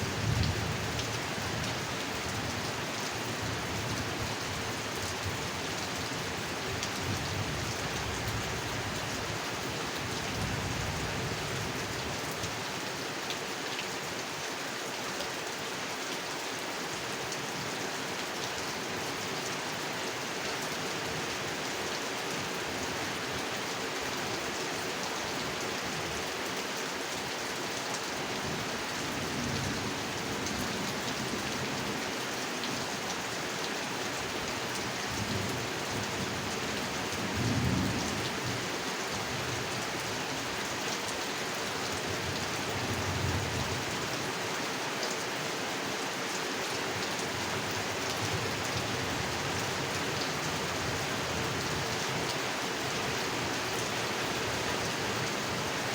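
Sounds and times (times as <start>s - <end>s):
heavy rain on a pond: 0.0s - 55.9s.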